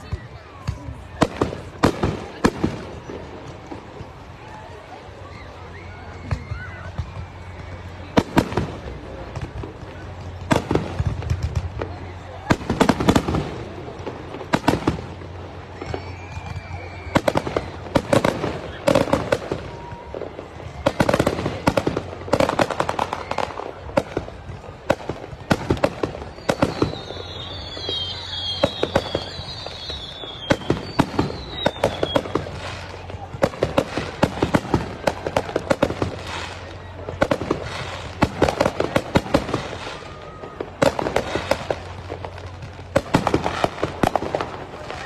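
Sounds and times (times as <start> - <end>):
fireworks bangs and crackles: 0.0 - 45.0
fireworks falling whistles: 0.0 - 45.0.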